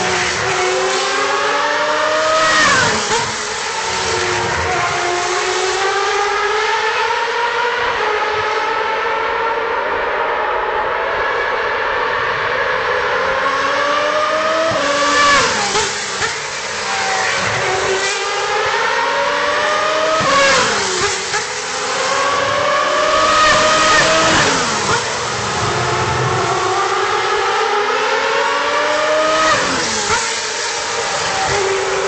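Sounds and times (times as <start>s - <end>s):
race car engines passing at high revs: 0.0s - 32.0s.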